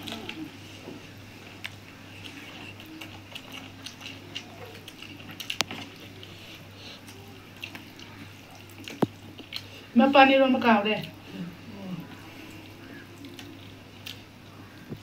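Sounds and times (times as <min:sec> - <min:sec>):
chewing: 0:00.0 - 0:09.9, 0:11.0 - 0:15.0.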